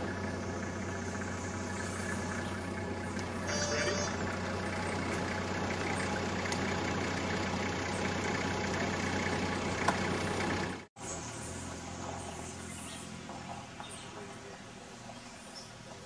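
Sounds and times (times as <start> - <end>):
low hum and rumble: 0.0 - 16.0.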